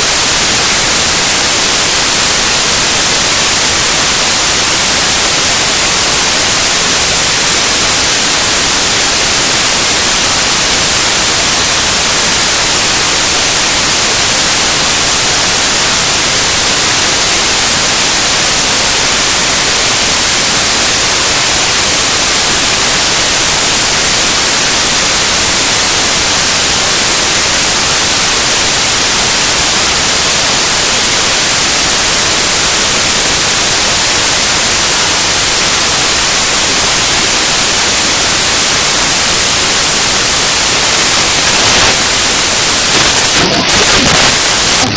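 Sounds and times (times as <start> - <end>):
loud static hiss: 0.0 - 44.9.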